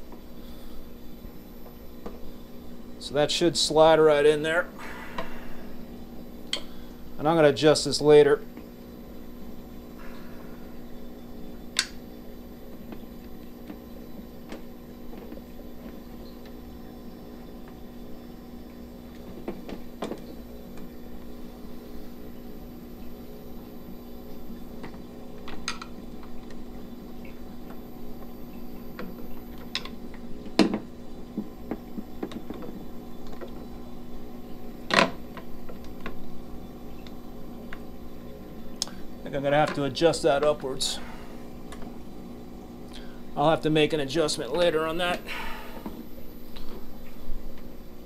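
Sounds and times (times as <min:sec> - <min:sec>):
aquarium pumps humming: 0:00.0 - 0:48.0.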